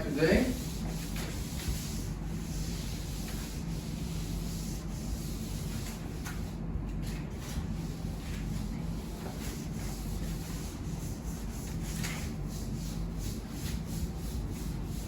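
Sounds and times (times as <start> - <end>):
cloth rubbing a surface: 0.0 - 15.0
low steady hum: 0.0 - 15.0.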